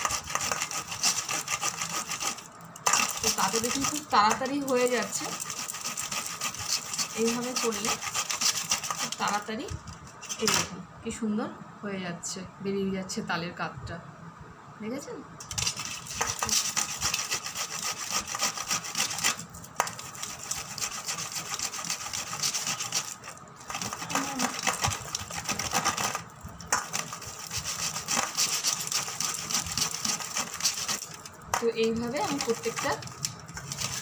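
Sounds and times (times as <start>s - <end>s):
fruit scraping on metal grater: 0.0s - 10.7s, 15.5s - 34.0s.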